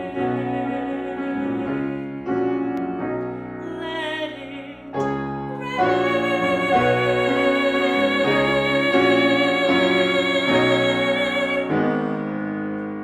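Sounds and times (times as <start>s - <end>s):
piano accompaniment: 0.0s - 13.0s.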